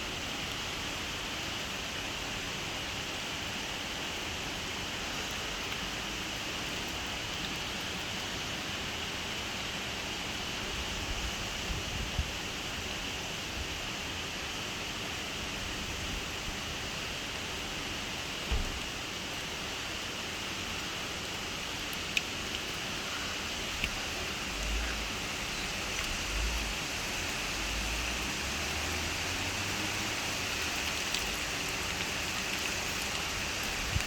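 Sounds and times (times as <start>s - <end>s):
rain and hail falling: 0.0s - 34.0s.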